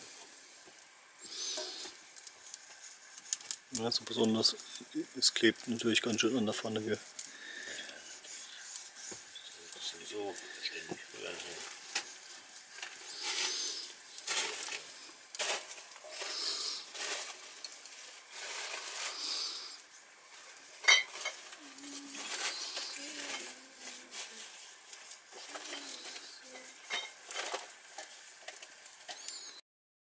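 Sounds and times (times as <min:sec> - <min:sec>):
food sizzling: 0:00.0 - 0:29.6
utensil scraping egg in pan: 0:00.6 - 0:29.4.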